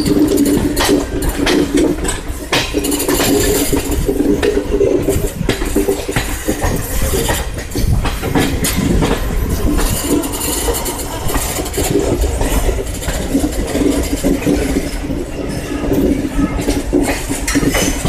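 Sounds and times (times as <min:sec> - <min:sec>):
train rumbling and rattling: 0:00.0 - 0:18.0
wheels clattering over rail joints: 0:00.0 - 0:18.0.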